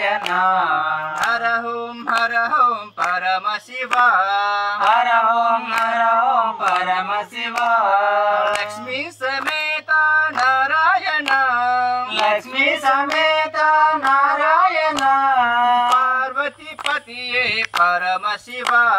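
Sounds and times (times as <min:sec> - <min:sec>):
group singing: 0:00.0 - 0:18.9
hand claps: 0:00.0 - 0:18.9.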